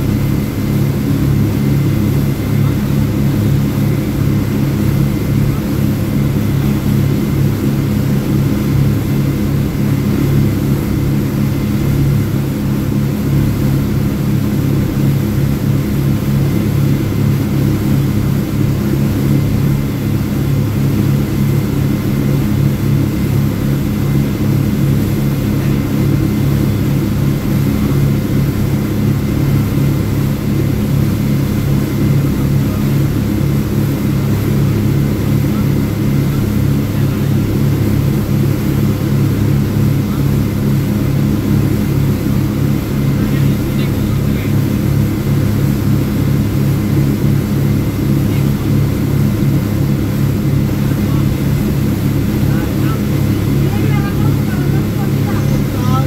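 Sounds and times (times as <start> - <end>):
speedboat engines droning: 0.0 - 56.0
wind: 0.0 - 56.0.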